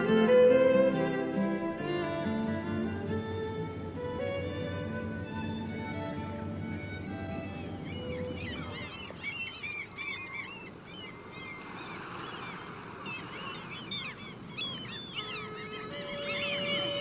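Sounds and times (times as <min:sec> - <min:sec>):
flock of birds calling: 0:00.0 - 0:17.0
soft rush of noise: 0:00.0 - 0:17.0.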